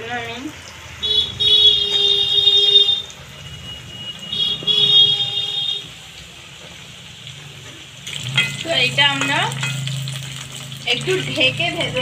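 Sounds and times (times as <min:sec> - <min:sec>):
potatoes deep-frying in oil: 0:00.0 - 0:12.0.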